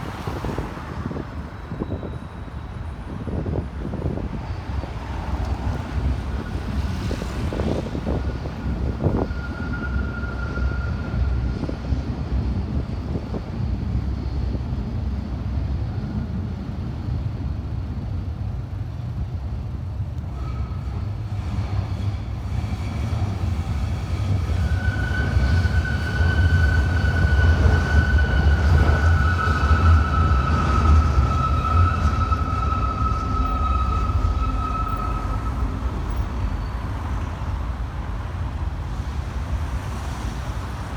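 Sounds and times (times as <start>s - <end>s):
train rumbling past: 0.0s - 40.9s.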